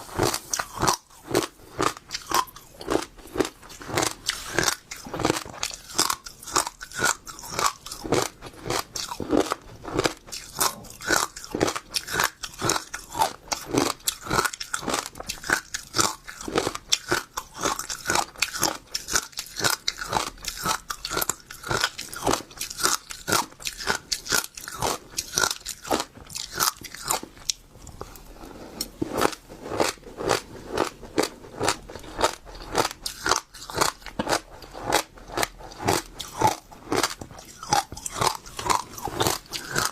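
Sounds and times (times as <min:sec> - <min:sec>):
seeds being chewed and crunched: 0:00.0 - 0:39.9.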